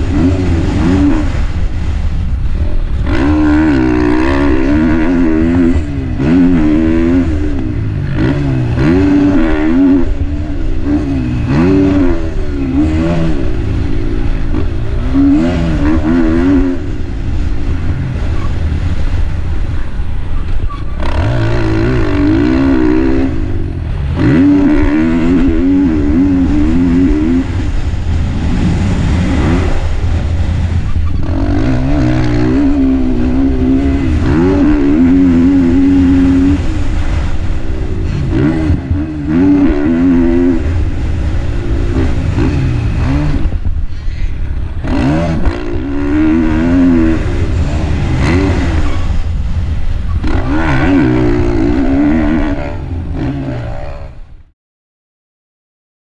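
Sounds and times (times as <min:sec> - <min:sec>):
motocross bike engine revving: 0:00.0 - 0:54.5.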